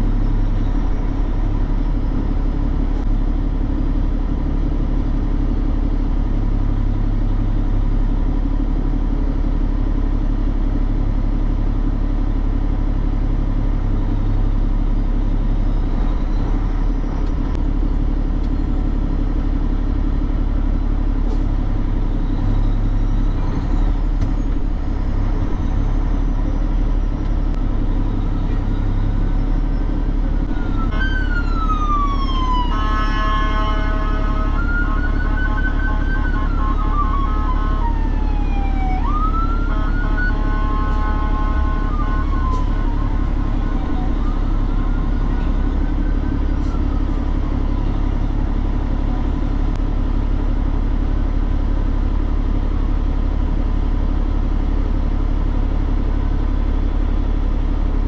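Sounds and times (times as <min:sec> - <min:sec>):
road noise: 0:00.0 - 0:58.0
truck diesel engine rumble: 0:00.0 - 0:58.0.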